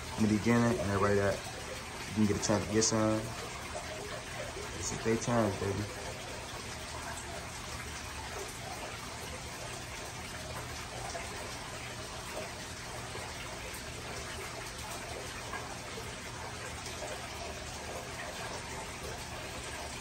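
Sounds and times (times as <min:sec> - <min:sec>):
aquarium water trickling: 0:00.0 - 0:20.0.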